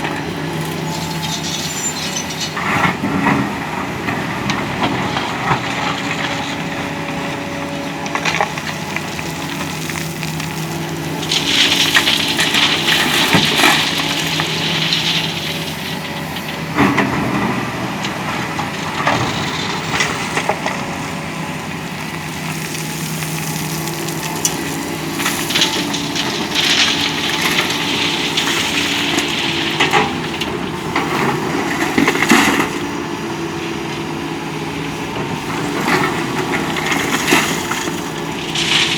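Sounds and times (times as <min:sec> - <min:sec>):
excavator diesel engine running: 0:00.0 - 0:38.9
gravel clattering: 0:00.0 - 0:38.9.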